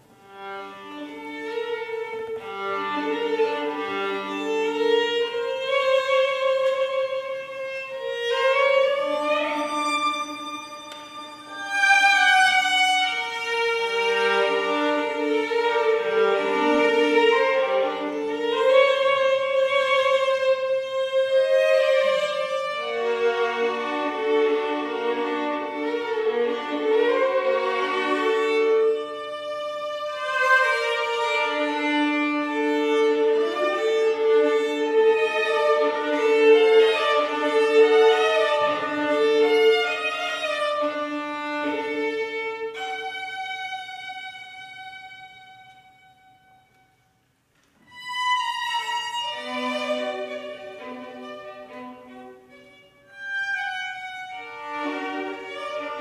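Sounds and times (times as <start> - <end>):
string quartet playing chords: 0.0 - 46.8, 47.6 - 56.0.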